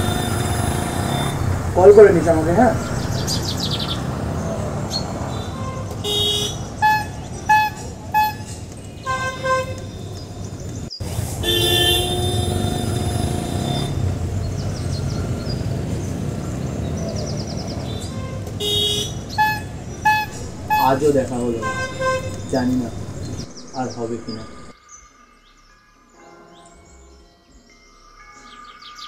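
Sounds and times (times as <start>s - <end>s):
car horns honking: 0.0s - 10.6s, 11.3s - 24.7s
road traffic rumble: 0.0s - 24.8s.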